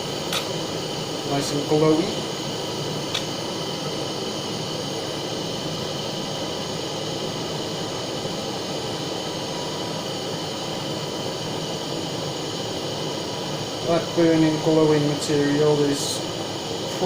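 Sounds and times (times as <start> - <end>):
blowtorch flame hissing: 0.0 - 17.0.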